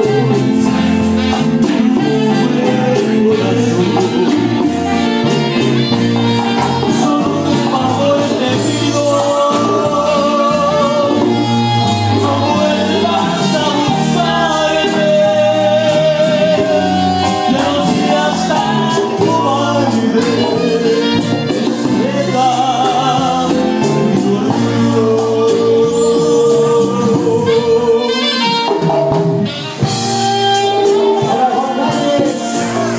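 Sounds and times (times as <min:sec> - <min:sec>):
man singing: 0:00.0 - 0:28.8, 0:29.8 - 0:32.9
latin dance band playing: 0:00.0 - 0:32.9.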